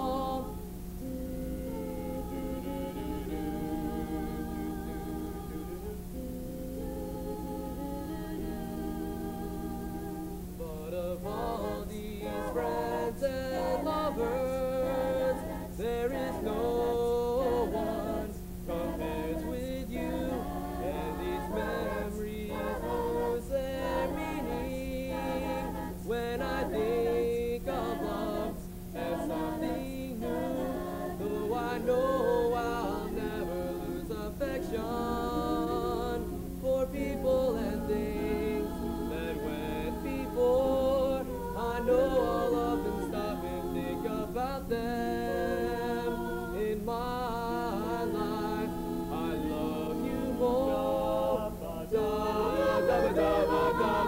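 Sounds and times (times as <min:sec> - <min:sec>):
a cappella choir singing: 0:00.0 - 0:54.0
steady low hum: 0:00.0 - 0:54.0.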